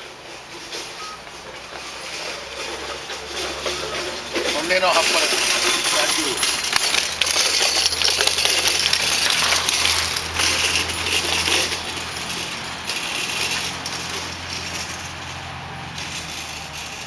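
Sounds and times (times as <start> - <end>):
bicycle rattling over concrete: 0.0 - 17.0.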